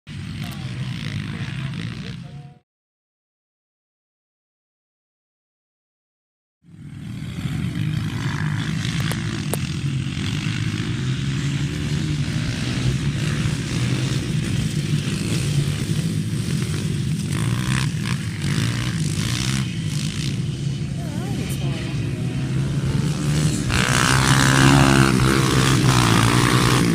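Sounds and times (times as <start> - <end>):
dirt bike engines running: 0.1 - 2.6, 6.7 - 26.9.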